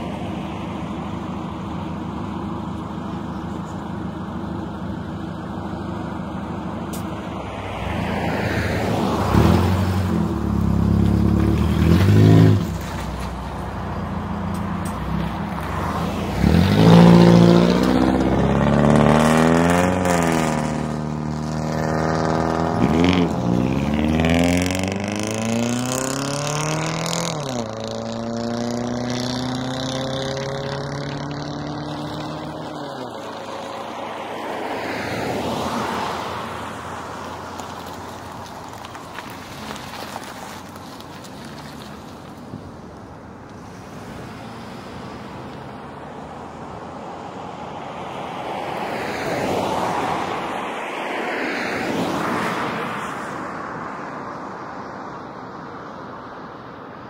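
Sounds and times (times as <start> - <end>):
road vehicles passing: 0.0 - 57.0.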